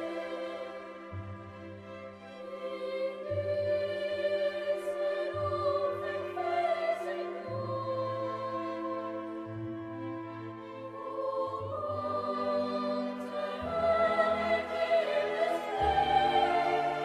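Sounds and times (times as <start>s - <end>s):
choral music with orchestra: 0.0s - 17.0s.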